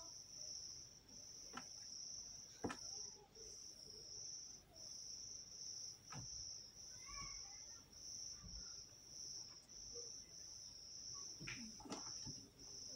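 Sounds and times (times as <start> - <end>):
cricket chirping: 0.0 - 12.9.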